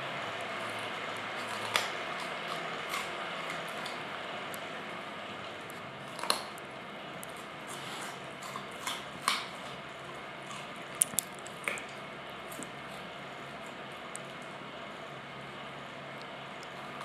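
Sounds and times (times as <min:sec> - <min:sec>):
dog crunching carrot: 0:00.0 - 0:14.7, 0:15.8 - 0:17.0.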